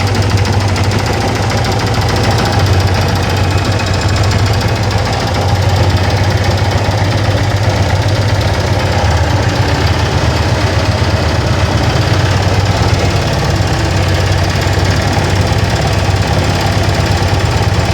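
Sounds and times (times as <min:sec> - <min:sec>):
fast rhythmic mechanical noise: 0:00.0 - 0:17.9
motorcycle engine idling: 0:00.0 - 0:17.9.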